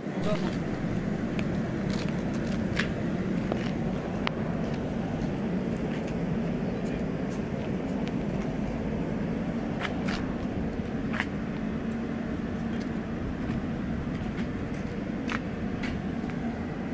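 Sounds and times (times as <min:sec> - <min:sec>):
train hum and rumble: 0:00.0 - 0:16.9.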